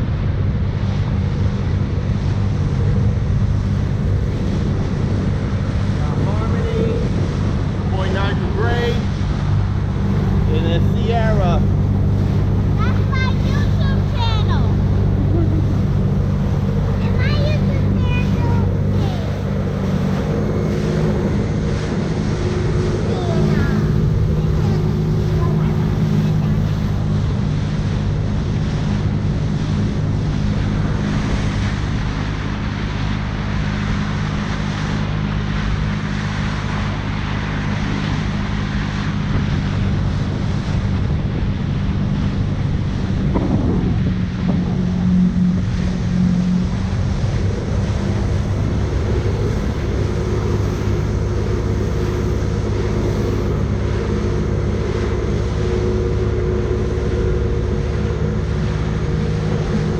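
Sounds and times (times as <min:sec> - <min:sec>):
jet ski engine running: 0:00.0 - 0:59.9
water rushing: 0:00.0 - 0:59.9
wind buffeting microphone: 0:00.0 - 0:59.9.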